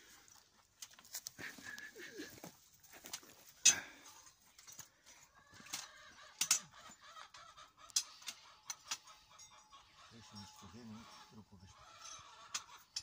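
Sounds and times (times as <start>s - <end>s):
chickens clucking: 0.5s - 13.0s.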